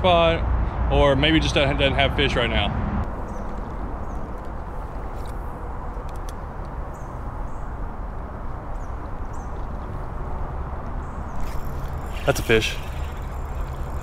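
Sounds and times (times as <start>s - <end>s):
distant highway traffic rumble: 0.0s - 14.0s.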